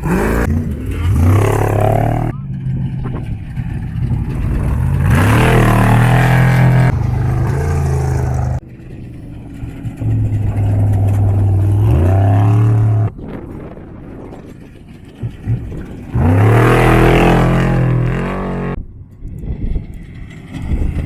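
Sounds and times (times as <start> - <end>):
race vehicle engine revving: 0.0 - 13.2, 15.1 - 18.8.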